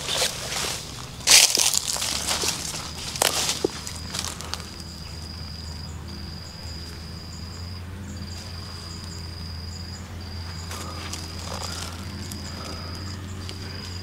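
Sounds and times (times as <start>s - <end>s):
faint insect chirps: 0.0s - 14.0s
insects trilling: 0.0s - 14.0s
steady low hum: 0.0s - 14.0s.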